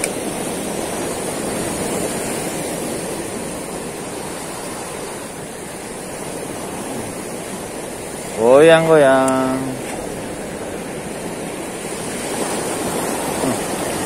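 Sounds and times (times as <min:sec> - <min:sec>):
surf washing over rocks: 0:00.0 - 0:14.0.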